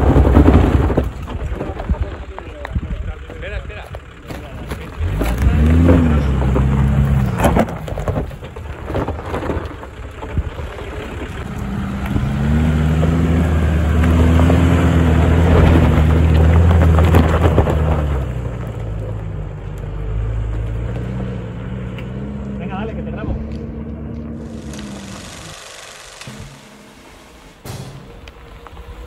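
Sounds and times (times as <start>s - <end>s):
tyres crunching over gravel: 0.0s - 26.2s
engine pulling under load: 0.0s - 29.0s.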